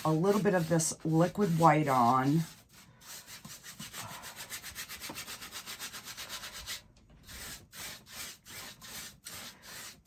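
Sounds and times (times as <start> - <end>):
paintbrush scrubbing on canvas: 0.0 - 10.0.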